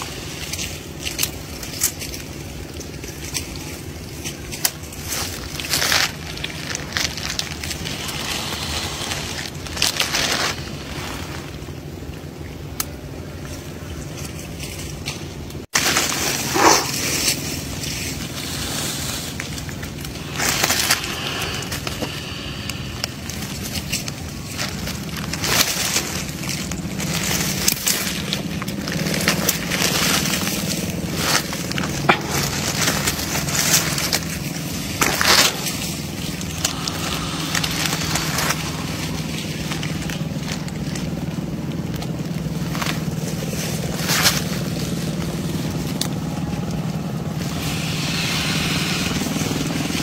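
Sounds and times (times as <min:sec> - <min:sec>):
low background hum: 0:00.0 - 0:50.0
rustling and crunching: 0:00.0 - 0:50.0.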